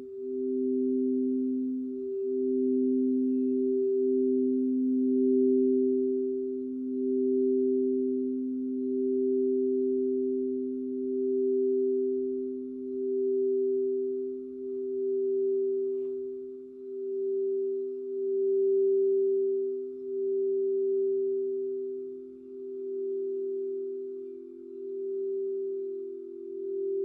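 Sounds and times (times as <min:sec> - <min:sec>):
crystal singing bowls: 0:00.0 - 0:27.0.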